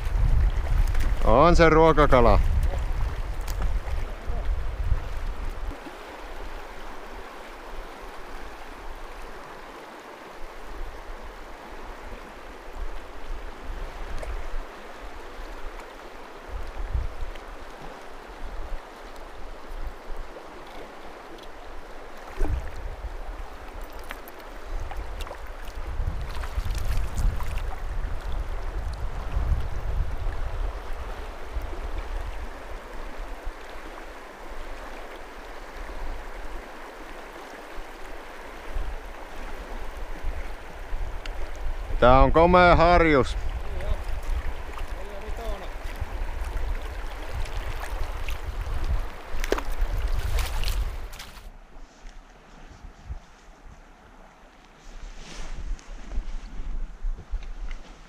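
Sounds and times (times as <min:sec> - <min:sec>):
river current running: 0:00.0 - 0:58.0.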